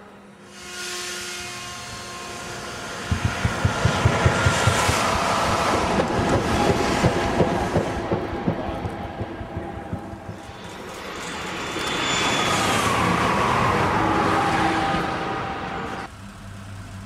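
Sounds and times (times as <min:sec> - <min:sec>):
train rush of air with whine: 0:00.0 - 0:17.0.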